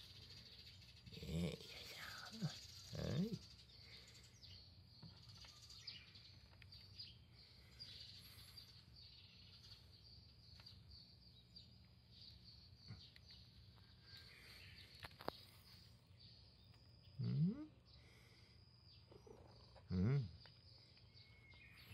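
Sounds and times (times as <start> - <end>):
distant birds chirping: 0.0 - 21.9.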